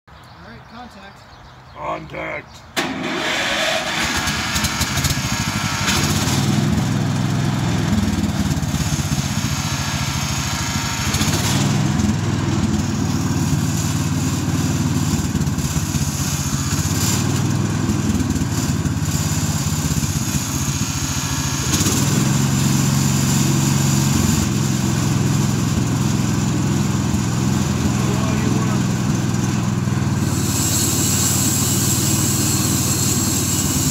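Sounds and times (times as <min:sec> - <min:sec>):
small gasoline engine running: 0:02.8 - 0:33.9.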